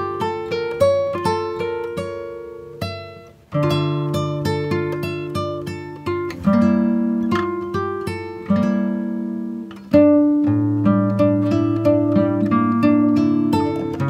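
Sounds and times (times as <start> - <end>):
plucked guitar melody: 0.0 - 14.0.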